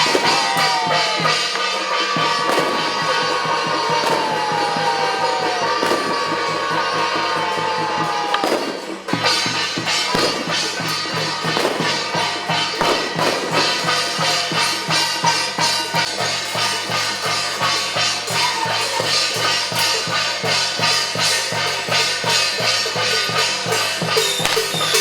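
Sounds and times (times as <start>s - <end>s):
music with fast drumbeat: 0.0s - 25.0s.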